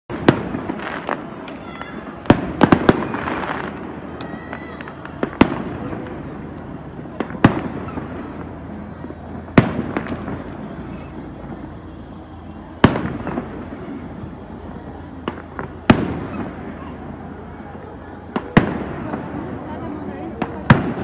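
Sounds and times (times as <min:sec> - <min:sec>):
small firework pops: 0:00.1 - 0:19.6, 0:20.3 - 0:21.0
firework shells bursting: 0:00.1 - 0:21.0.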